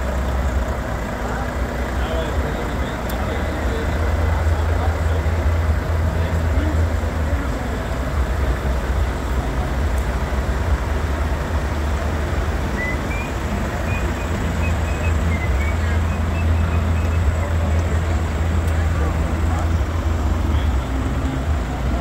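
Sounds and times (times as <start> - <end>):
truck diesel engines idling: 0.0 - 22.0.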